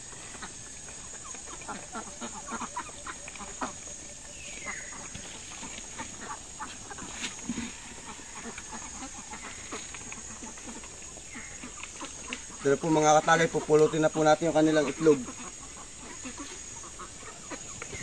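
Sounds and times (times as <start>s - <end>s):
ducks calling: 0.0s - 18.0s
ducks pecking and shuffling: 0.0s - 18.0s.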